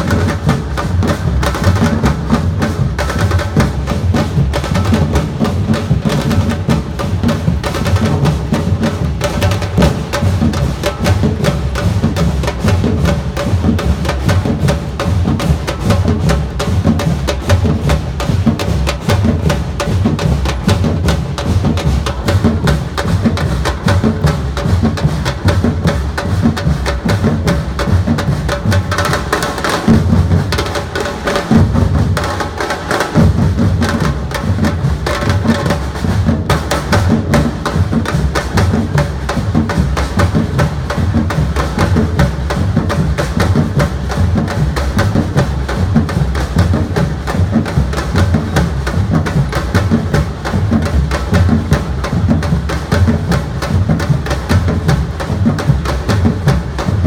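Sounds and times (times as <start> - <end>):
bass drums pounding: 0.0 - 32.3, 33.1 - 57.0
snare and high drums: 0.0 - 57.0.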